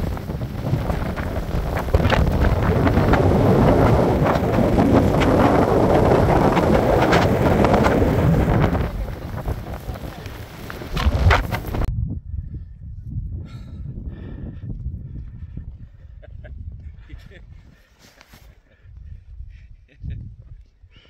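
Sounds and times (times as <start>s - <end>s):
wind buffeting microphone: 0.0s - 17.9s, 18.5s - 21.0s.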